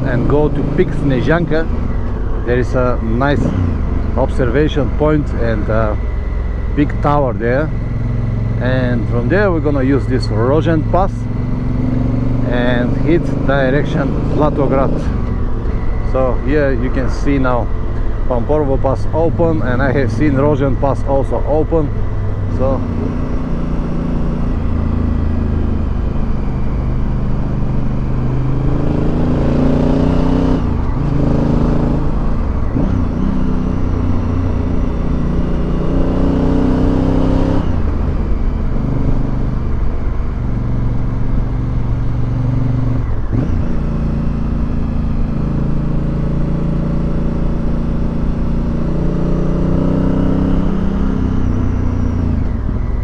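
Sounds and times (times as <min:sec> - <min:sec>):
motorcycle engine shifting gears: 0:00.0 - 0:53.0.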